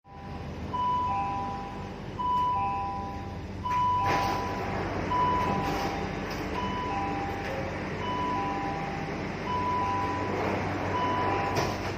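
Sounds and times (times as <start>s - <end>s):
train rumble: 0.4s - 11.9s.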